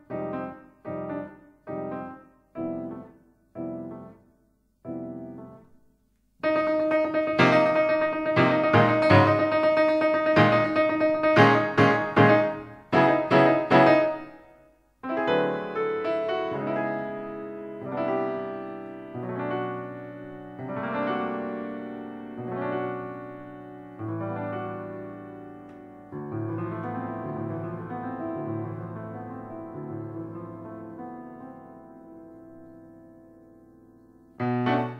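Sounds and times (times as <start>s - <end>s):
piano chords: 0.0s - 34.9s.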